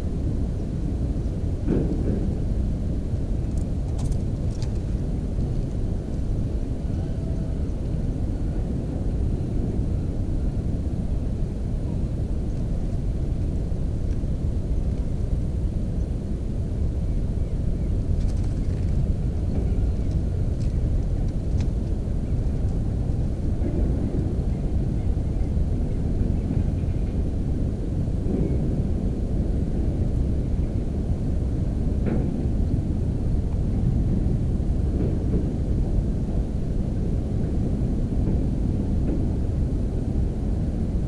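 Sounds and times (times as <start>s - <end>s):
low rumbling background noise: 0.0s - 41.0s.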